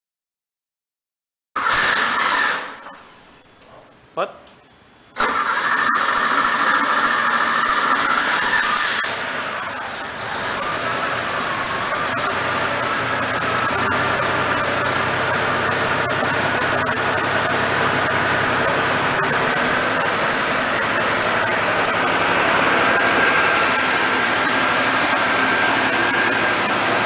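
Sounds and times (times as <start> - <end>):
car engine idling with whine: 1.6 - 4.0, 4.6 - 27.0.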